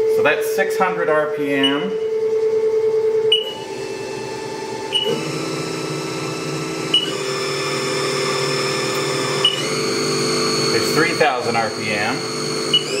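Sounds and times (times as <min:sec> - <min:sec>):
milling machine spindle whine: 0:00.0 - 0:13.0.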